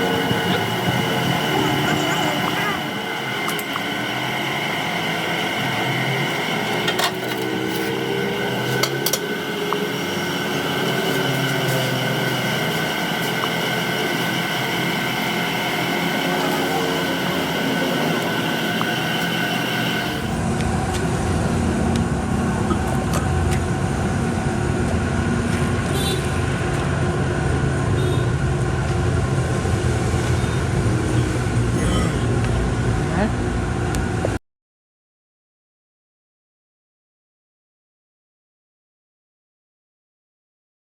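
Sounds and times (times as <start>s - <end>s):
machinery whine with high tones: 0.0s - 34.4s.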